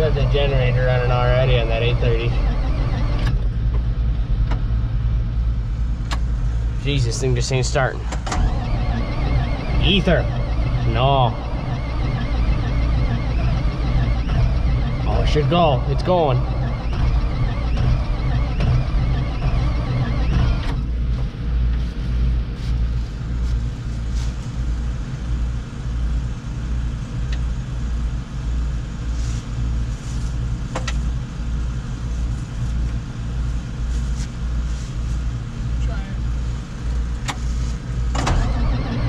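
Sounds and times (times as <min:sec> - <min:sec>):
diesel tractor engine chugging: 0:00.0 - 0:39.0.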